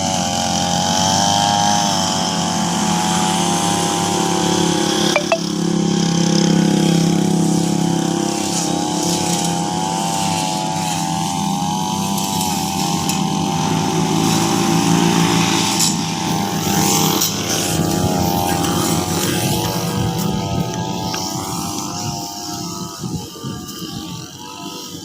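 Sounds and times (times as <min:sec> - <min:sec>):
lawn mower engine running: 0:00.1 - 0:25.0.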